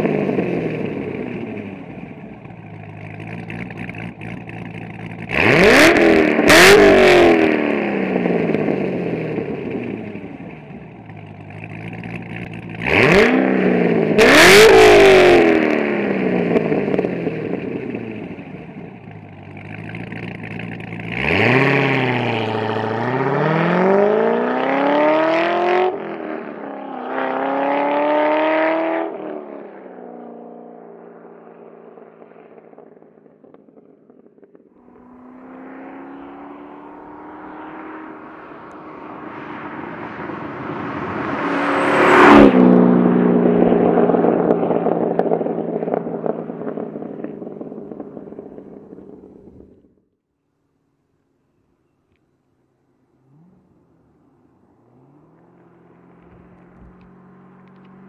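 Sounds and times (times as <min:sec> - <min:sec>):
sports car engine revving: 0:00.0 - 0:29.6, 0:31.1 - 0:49.9, 0:52.6 - 0:58.0.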